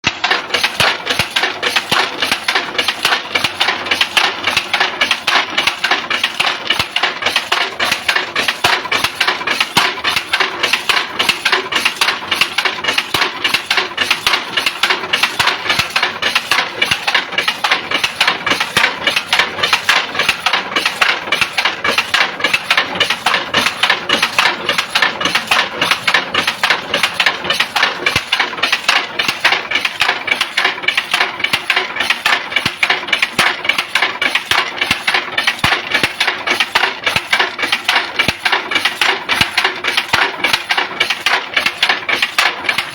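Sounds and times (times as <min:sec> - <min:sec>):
machine clattering rhythmically: 0:00.0 - 0:42.9.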